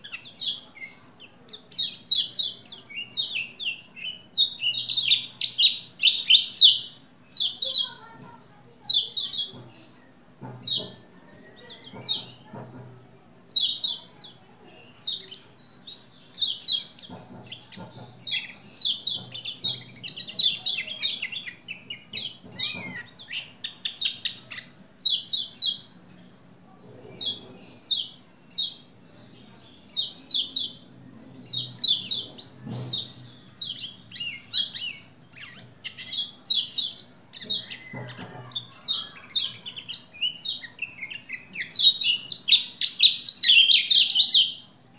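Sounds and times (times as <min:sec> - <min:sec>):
bird singing rapid high chirps: 0:00.0 - 0:12.6, 0:13.4 - 0:26.5, 0:27.1 - 0:44.9.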